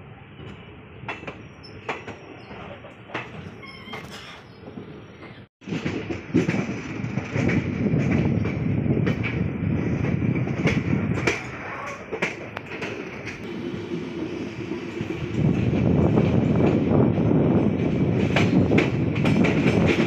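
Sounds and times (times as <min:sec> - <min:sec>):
train wheels rumbling on track: 0:00.0 - 0:20.0
wheels clacking over rail joints: 0:00.4 - 0:13.5, 0:14.6 - 0:20.0.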